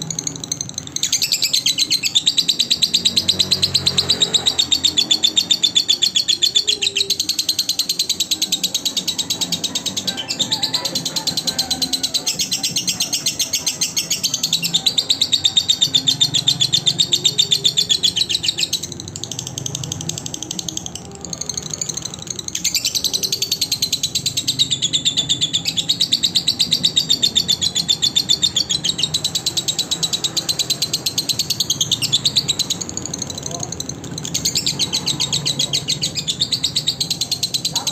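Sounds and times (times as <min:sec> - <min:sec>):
lovebird chirping: 0:00.0 - 0:37.9.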